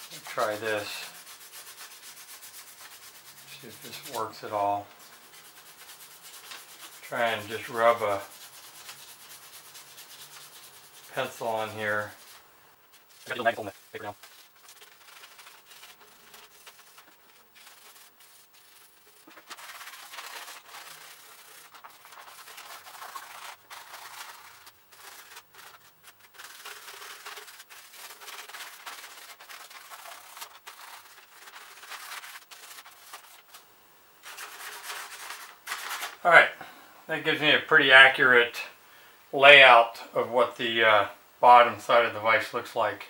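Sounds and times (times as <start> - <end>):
pencil rubbing on paper: 0.0 - 33.6, 34.2 - 36.2.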